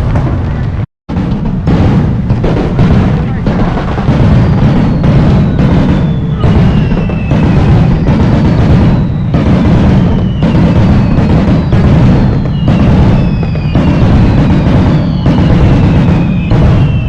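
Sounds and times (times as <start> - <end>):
fireworks booming: 0.0 - 17.0
fireworks whistles falling in pitch: 2.8 - 17.0.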